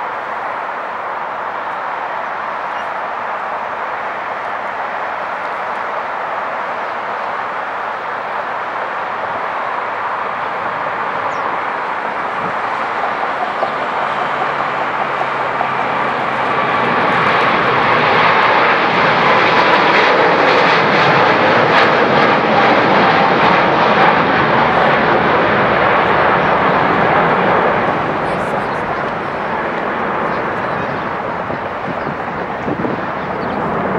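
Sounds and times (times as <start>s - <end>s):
jet engine roar at take-off: 0.0s - 33.9s.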